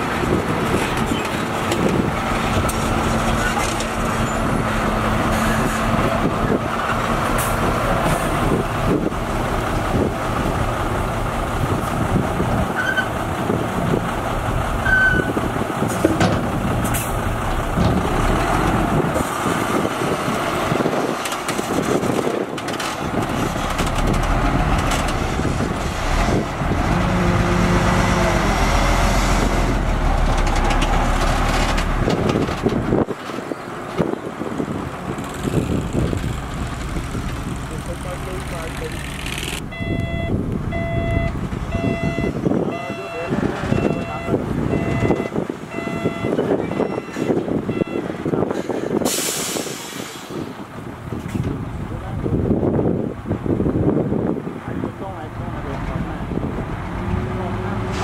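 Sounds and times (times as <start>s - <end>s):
diesel dump truck engines: 0.0s - 58.0s.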